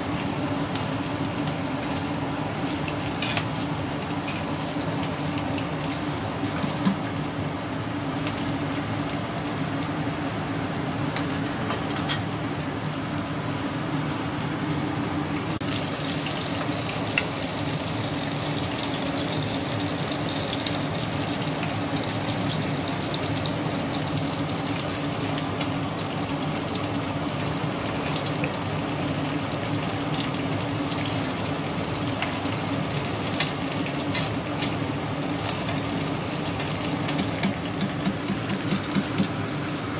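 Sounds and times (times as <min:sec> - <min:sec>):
fish frying in oil: 0:00.0 - 0:39.9.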